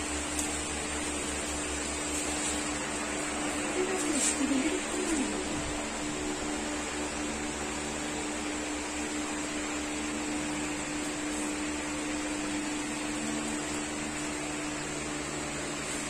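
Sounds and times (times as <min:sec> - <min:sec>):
indoor machine hum: 0:00.0 - 0:16.0.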